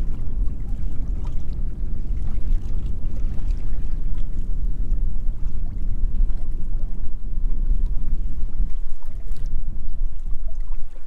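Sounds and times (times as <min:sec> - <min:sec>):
water lapping against boat hull: 0:00.0 - 0:11.0
wind rumbling on microphone: 0:00.0 - 0:11.0.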